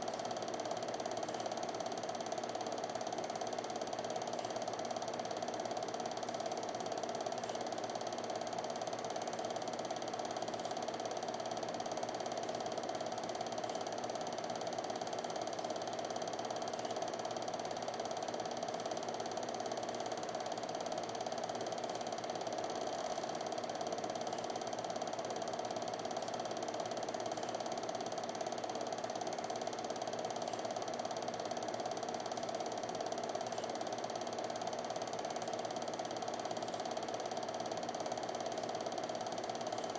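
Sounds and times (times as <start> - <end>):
film projector clattering: 0.0 - 39.9.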